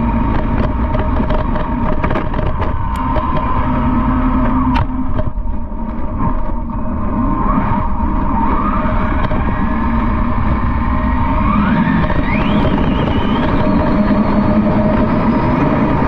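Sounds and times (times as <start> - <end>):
electric motor whining: 0.0 - 16.0
low rumble: 0.0 - 16.0.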